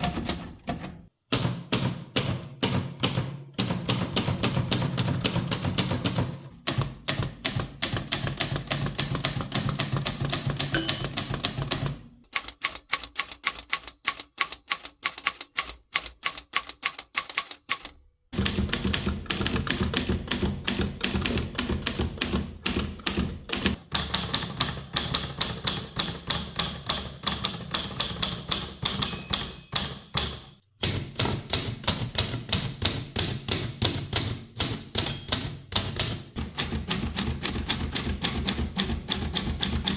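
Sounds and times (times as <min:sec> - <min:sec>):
typewriter keystrokes: 0:00.0 - 0:39.9.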